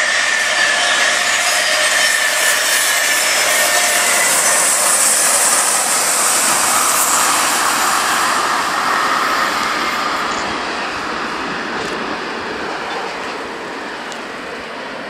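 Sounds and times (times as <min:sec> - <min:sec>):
faint high whine: 0:00.0 - 0:15.0
train wheels rushing on rail: 0:00.0 - 0:15.0.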